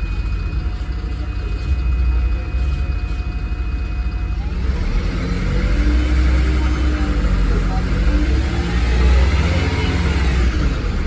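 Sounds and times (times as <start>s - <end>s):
bus driveline rumble: 0.0s - 11.0s.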